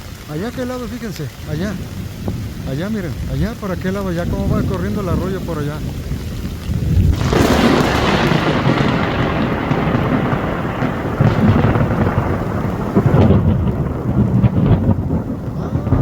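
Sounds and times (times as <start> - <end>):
heavy rain: 0.0 - 16.0
thunderclap rolling into rumble: 1.5 - 16.0.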